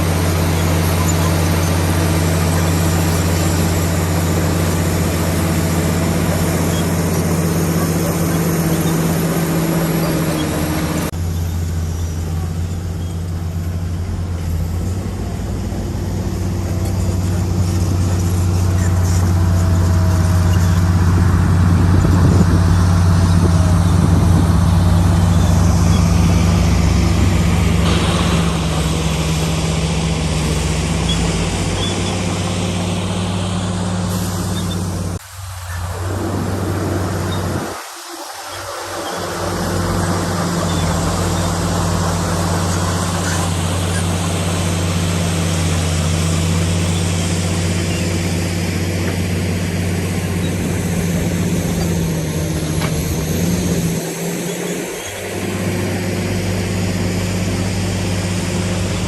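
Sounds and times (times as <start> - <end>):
bulldozer diesel engine humming: 0.0 - 59.0.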